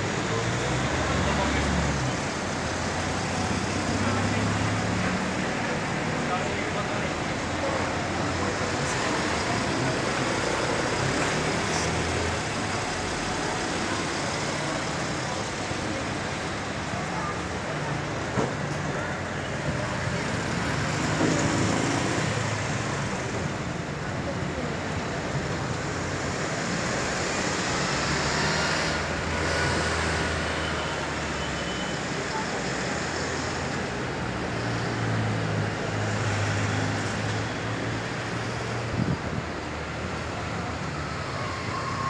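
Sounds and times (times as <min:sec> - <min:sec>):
road traffic: 0:00.0 - 0:42.0.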